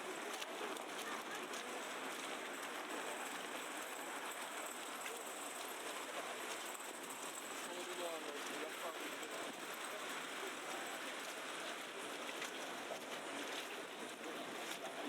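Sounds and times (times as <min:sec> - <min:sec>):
faint voices of passers-by: 0:00.0 - 0:15.0
wet hiss of city street: 0:00.0 - 0:15.0.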